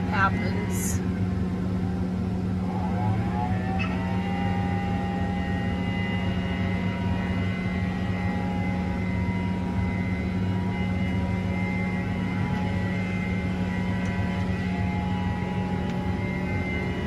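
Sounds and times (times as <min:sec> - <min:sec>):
engine running at high speed: 0:00.0 - 0:17.0.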